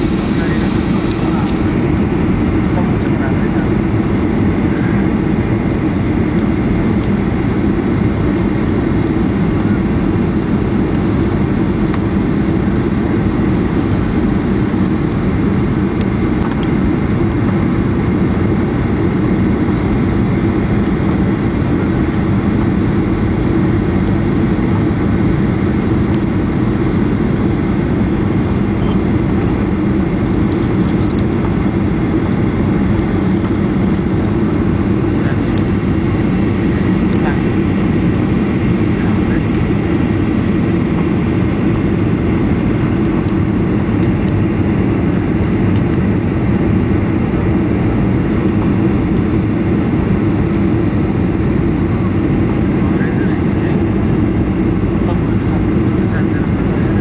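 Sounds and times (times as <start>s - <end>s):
airliner cabin engine noise: 0.0s - 57.0s.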